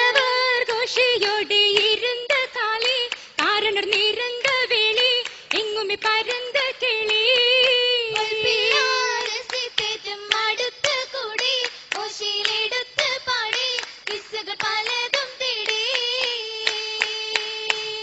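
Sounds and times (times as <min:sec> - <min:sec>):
girls singing together: 0:00.0 - 0:18.0
hand claps: 0:00.0 - 0:18.0.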